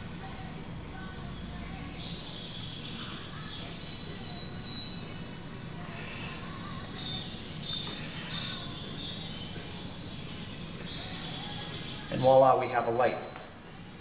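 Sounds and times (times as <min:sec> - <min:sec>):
small bird chirping: 0:00.9 - 0:14.0.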